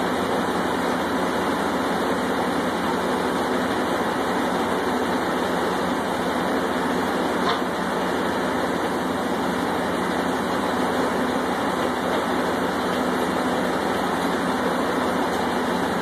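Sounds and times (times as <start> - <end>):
drilling rig machinery running: 0.0 - 16.0.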